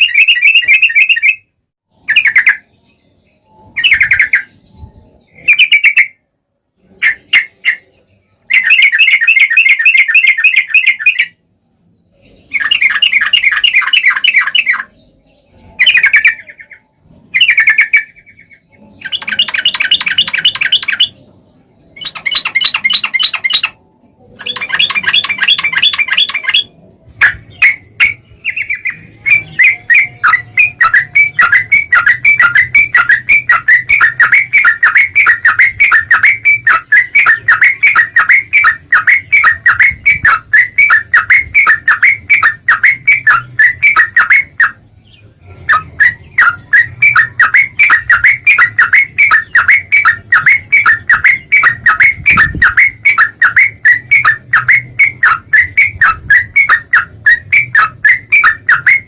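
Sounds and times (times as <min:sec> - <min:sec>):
bulbul chattering song: 0:00.0 - 0:59.0.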